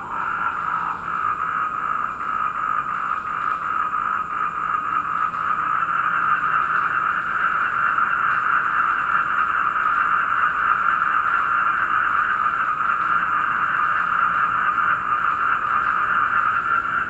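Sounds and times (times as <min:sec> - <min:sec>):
crickets chirring: 0:00.0 - 0:17.0
toads trilling in chorus: 0:00.0 - 0:17.0.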